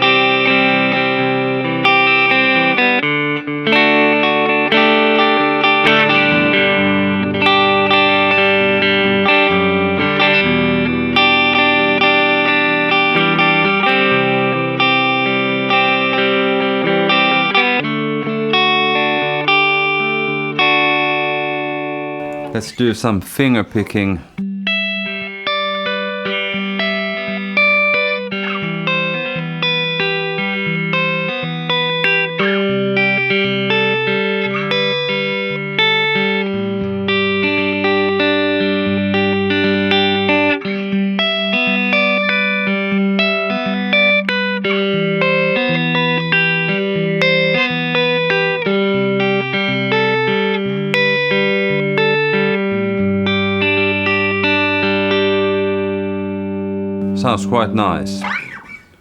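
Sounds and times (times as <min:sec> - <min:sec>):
electric guitar played fingerstyle: 0:00.0 - 0:22.9, 0:23.5 - 0:59.0.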